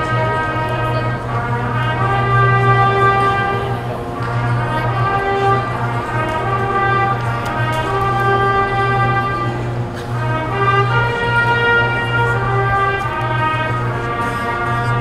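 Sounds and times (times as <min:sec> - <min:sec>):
concert band playing chords: 0:00.0 - 0:15.0.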